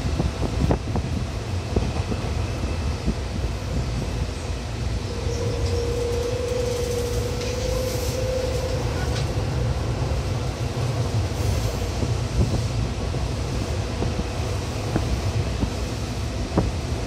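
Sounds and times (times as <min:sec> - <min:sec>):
train wheels rumbling on rails: 0:00.0 - 0:17.0
train whine: 0:00.0 - 0:17.0.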